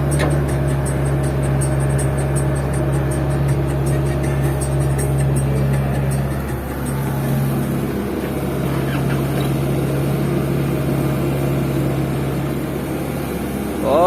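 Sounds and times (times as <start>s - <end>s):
dump truck diesel engine: 0.0s - 14.0s
excavator diesel engine: 0.0s - 14.0s.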